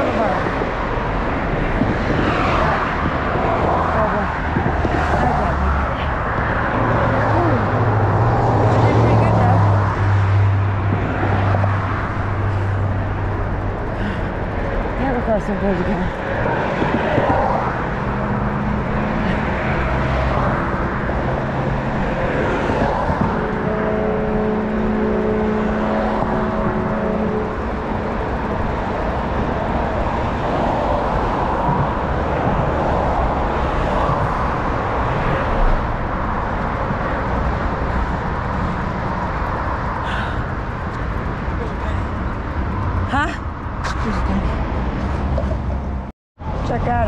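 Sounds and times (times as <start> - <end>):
traffic noise: 0.0 - 47.0
wind rushing over microphone: 0.0 - 47.0.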